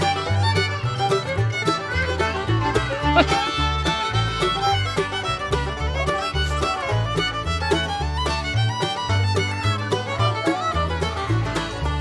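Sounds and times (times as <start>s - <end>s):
bluegrass fiddle music: 0.0s - 12.0s.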